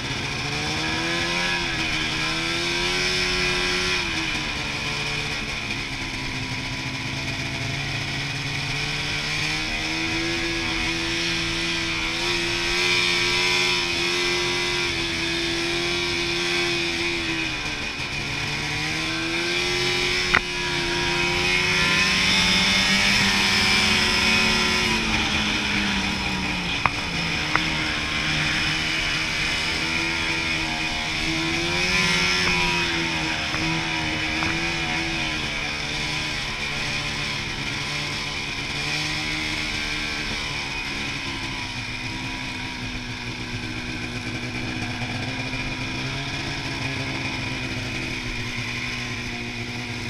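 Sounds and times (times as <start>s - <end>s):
snowmobile engine revving: 0.0s - 50.0s.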